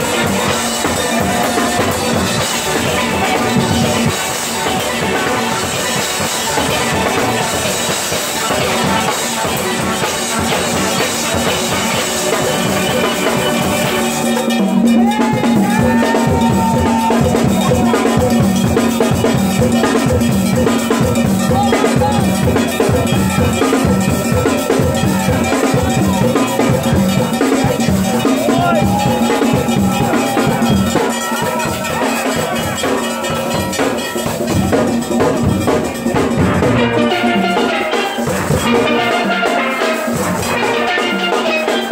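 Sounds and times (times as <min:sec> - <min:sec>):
drum beat: 0:00.0 - 0:41.9
steel pans playing: 0:00.0 - 0:41.9.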